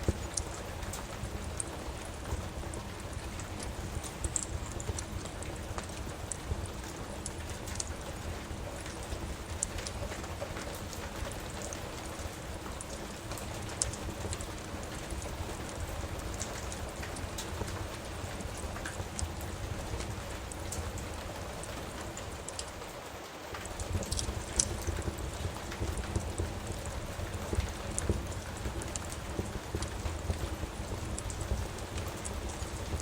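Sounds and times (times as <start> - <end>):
steady rain: 0.0 - 33.0
wood fire crackling: 0.0 - 33.0.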